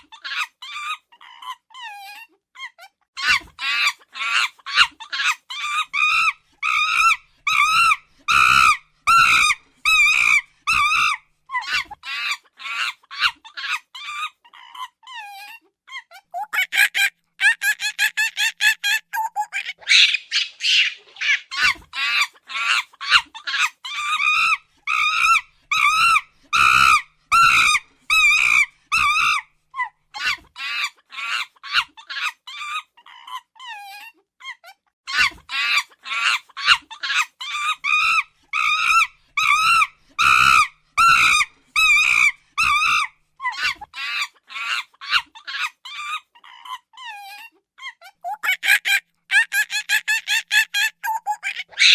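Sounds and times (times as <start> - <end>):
monkey screeching: 0.0 - 15.6, 16.4 - 29.5, 30.2 - 34.1, 35.1 - 51.9.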